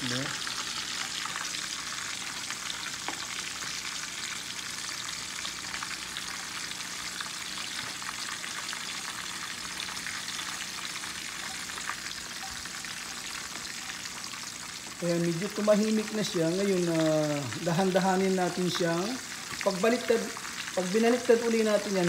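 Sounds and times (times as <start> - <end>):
meat frying in hot oil: 0.0 - 22.0.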